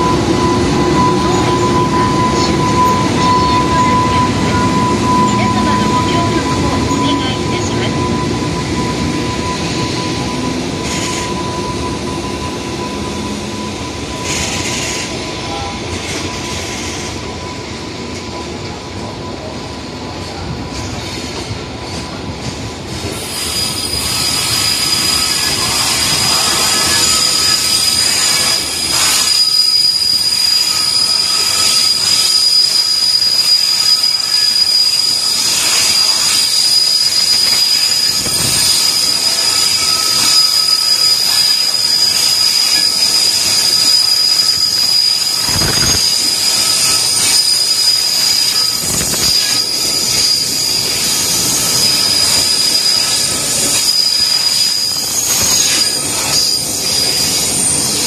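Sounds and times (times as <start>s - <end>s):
high-pitched wheel squeal: 0.0s - 17.6s, 23.1s - 58.0s
train wheels rumbling and hissing: 0.0s - 58.0s.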